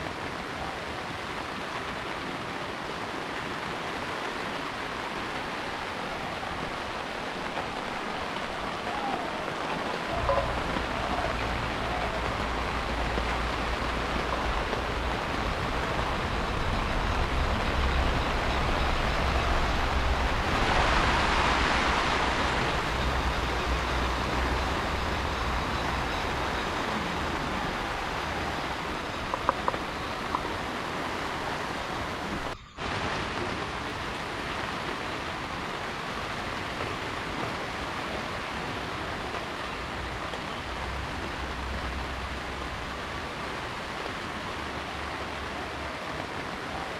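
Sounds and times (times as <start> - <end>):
heavy rain hissing: 0.0 - 46.9.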